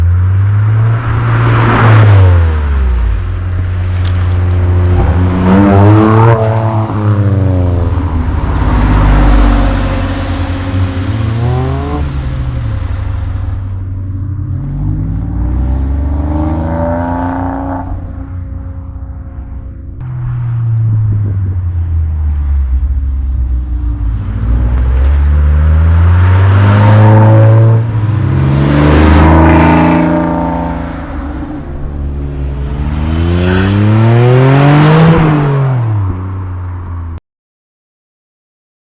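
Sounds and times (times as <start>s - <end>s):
sports car engines accelerating: 0.0s - 37.1s.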